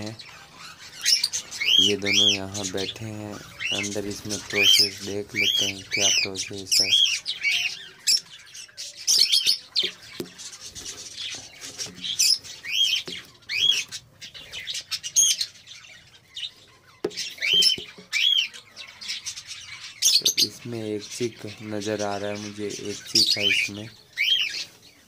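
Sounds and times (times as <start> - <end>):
budgerigars chirping: 0.0 - 25.0.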